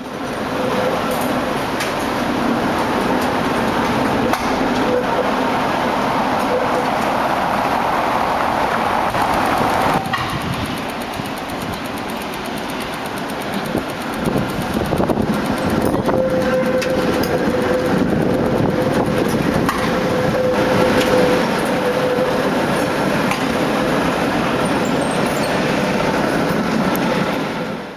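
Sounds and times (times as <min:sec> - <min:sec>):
tram motor whine: 0:00.0 - 0:27.9
tram wheels rumbling over rails: 0:00.0 - 0:27.9.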